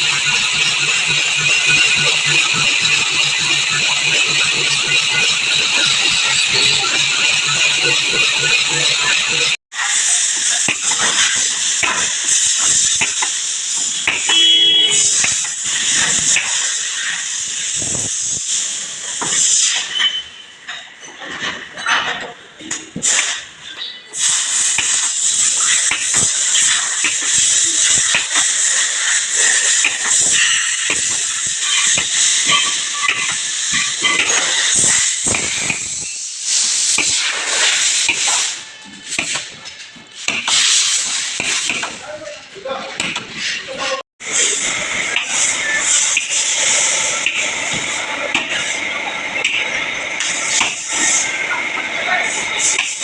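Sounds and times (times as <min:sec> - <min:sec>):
loud steady hiss: 0:00.0 - 0:20.7, 0:22.9 - 0:53.0.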